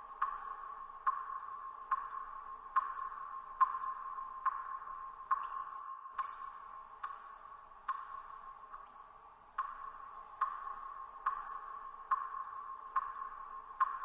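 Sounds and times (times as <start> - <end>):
water dripping in a cave: 0.0 - 14.0.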